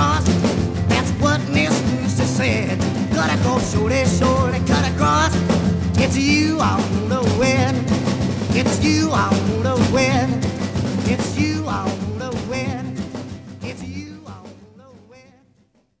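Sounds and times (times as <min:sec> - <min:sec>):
rock and roll song: 0:00.0 - 0:15.6.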